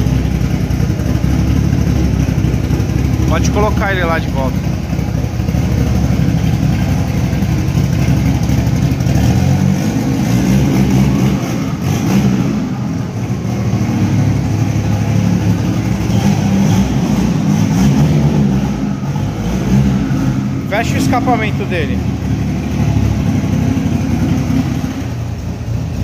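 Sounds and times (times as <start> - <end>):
car engine rumbling at low revs: 0.0 - 26.0.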